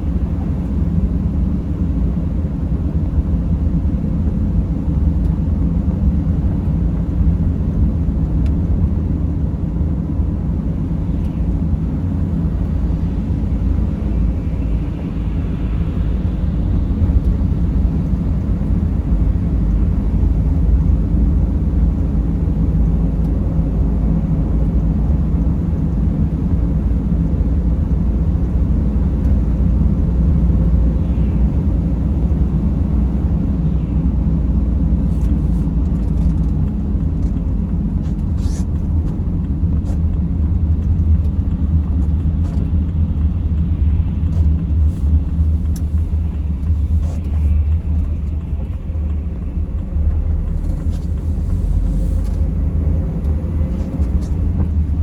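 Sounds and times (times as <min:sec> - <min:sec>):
road noise: 0:00.0 - 0:55.0
van engine rumble: 0:00.0 - 0:55.0.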